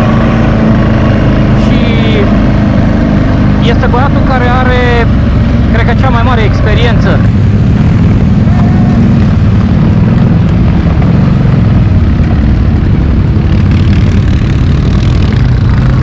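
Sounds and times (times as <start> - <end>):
atv engine running low speed: 0.0 - 16.0.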